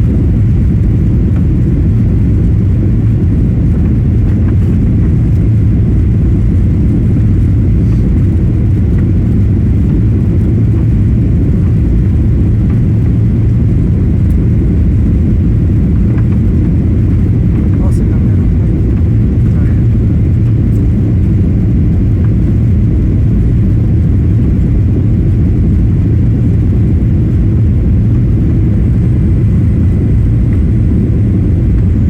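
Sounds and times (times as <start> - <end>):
jet engine and airflow in cabin: 0.0 - 32.0.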